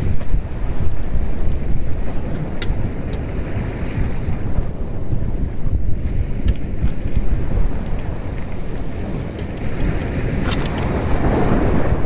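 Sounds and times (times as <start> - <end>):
water rushing along boat: 0.0 - 12.0
wind rumbling on microphone: 0.0 - 12.0.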